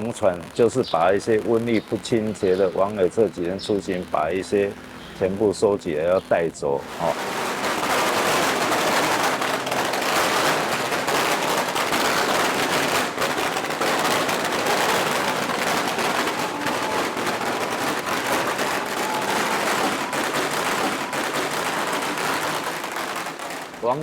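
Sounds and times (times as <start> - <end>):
firecrackers crackling: 0.0 - 24.0.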